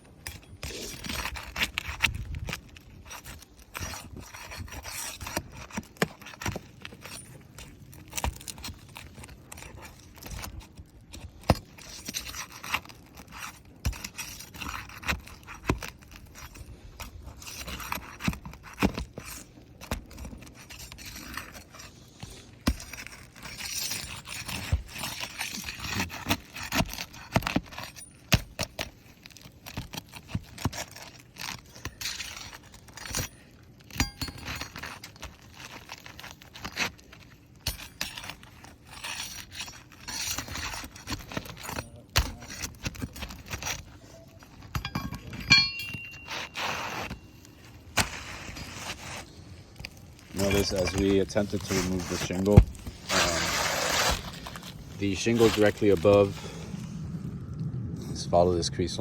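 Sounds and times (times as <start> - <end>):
shingles cracking: 0.1 - 56.4
shingles scraping: 0.1 - 56.6.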